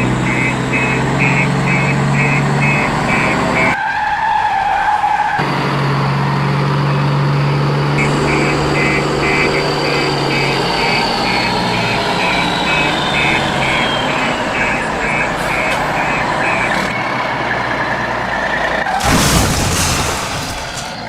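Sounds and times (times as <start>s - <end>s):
vehicle engine droning: 0.0s - 3.8s, 4.8s - 21.0s.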